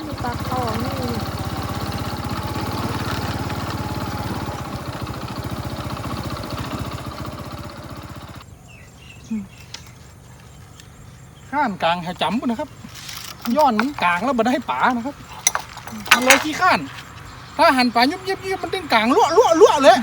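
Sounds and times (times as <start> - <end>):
small engine puttering: 0.0 - 8.5, 9.2 - 20.0.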